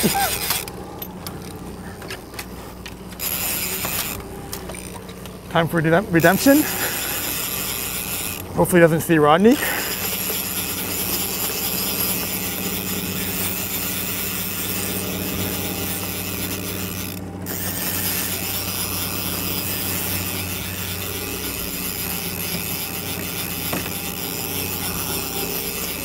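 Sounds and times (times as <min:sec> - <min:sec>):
fishing reel clicking: 0:00.0 - 0:01.6, 0:02.2 - 0:05.4, 0:06.1 - 0:08.5, 0:09.4 - 0:26.0
outboard motor humming: 0:00.0 - 0:26.0.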